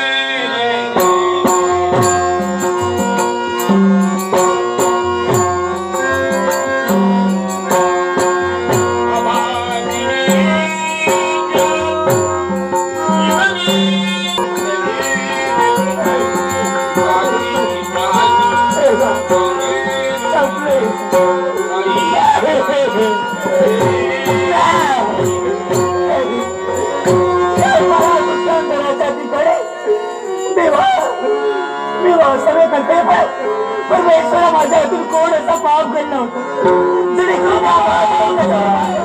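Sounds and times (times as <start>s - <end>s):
harmonium holding notes: 0.0s - 39.0s.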